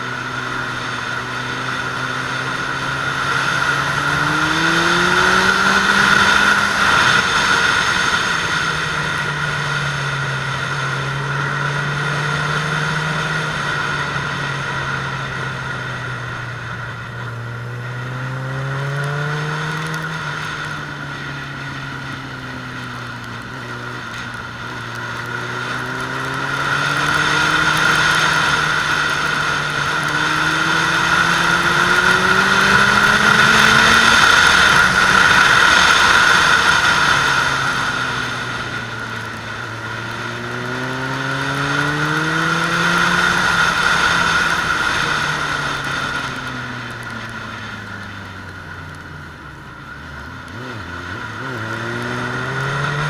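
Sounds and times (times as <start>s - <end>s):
motorcycle engine at speed: 0.0s - 53.0s.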